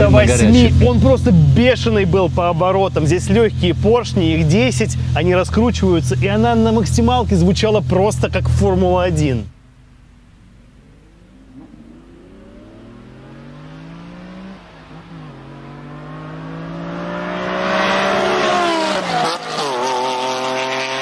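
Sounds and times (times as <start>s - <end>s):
cars accelerating hard: 0.0s - 8.6s, 10.5s - 21.0s.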